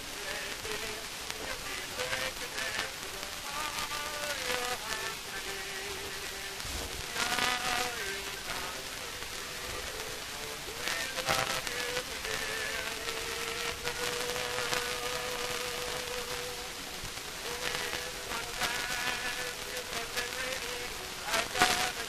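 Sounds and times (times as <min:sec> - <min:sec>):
record crackle and hiss: 0:00.0 - 0:22.0.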